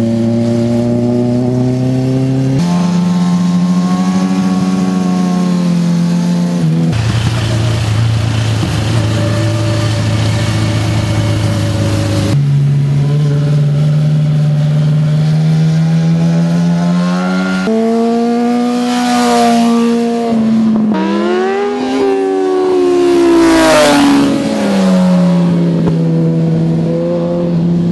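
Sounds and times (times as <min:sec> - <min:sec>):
motorcycle engines accelerating: 0:00.0 - 0:27.9.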